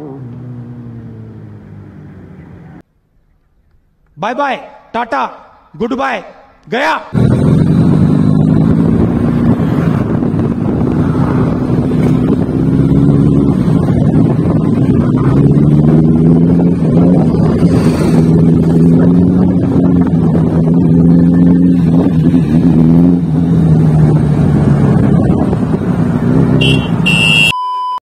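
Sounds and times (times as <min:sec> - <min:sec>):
vehicle engine rumbling: 0:00.0 - 0:04.2, 0:06.5 - 0:27.5.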